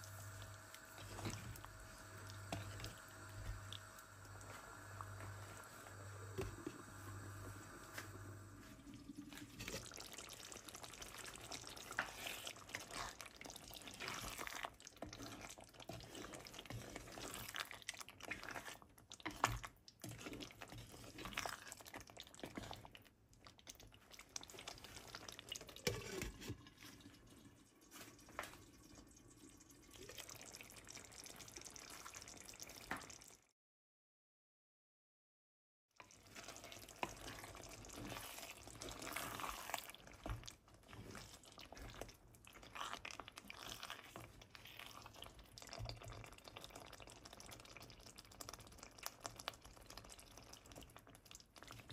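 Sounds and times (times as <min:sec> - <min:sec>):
curry bubbling: 0:00.0 - 0:33.4, 0:36.0 - 0:51.9.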